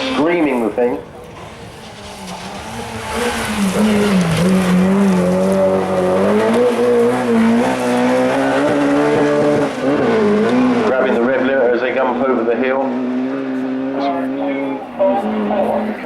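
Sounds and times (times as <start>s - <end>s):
rally car engine screaming: 0.0s - 0.8s, 1.9s - 16.0s.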